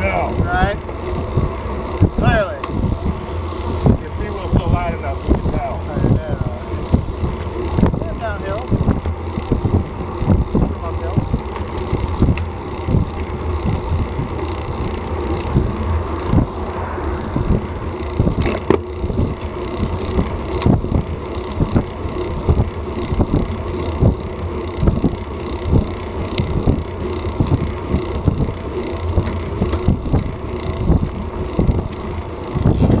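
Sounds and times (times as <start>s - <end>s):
road rumble: 0.0s - 33.0s
wind buffeting: 0.0s - 33.0s.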